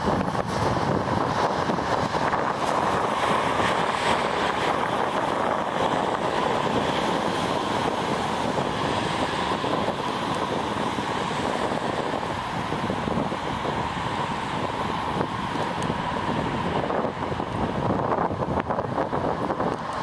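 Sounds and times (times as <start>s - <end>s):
distant turboprop aircraft drone: 0.0s - 20.0s.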